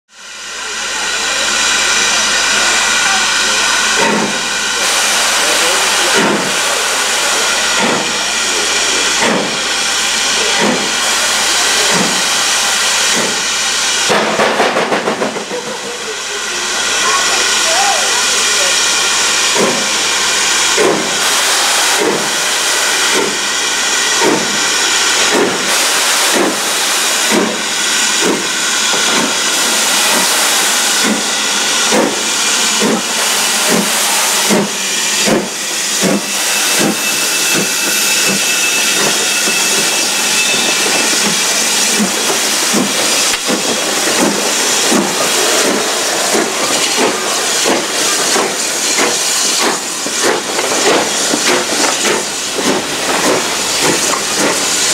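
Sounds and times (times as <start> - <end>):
loud hiss of steam: 0.1 - 54.9
steam locomotive exhaust beats: 0.1 - 54.9.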